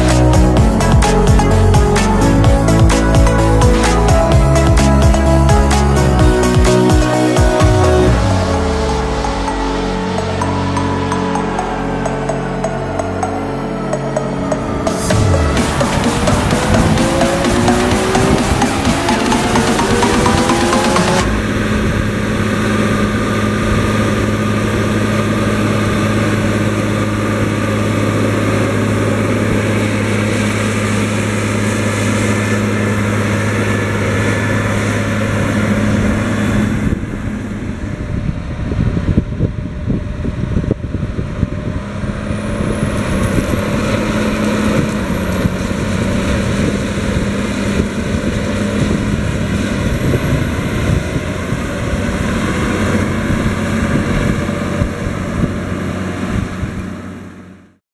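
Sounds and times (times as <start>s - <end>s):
tractor diesel engine under load: 0.0s - 57.7s.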